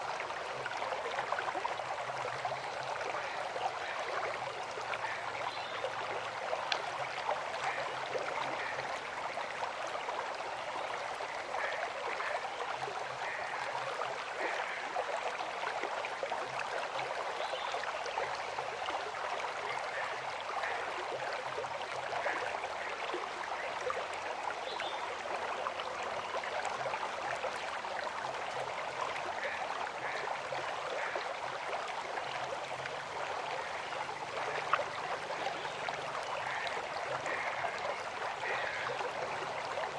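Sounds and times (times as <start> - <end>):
small water splashes: 0.0 - 39.9.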